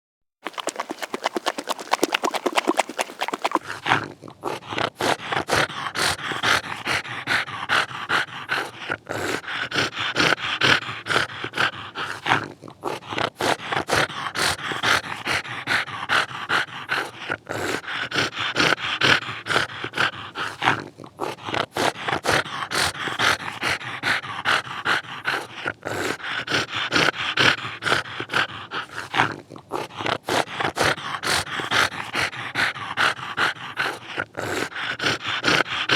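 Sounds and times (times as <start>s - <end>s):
dog snoring with flapping jowls: 0.5s - 35.9s.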